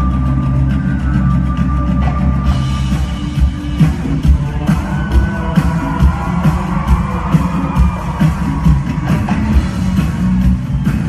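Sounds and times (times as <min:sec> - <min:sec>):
live band music: 0:00.0 - 0:11.0.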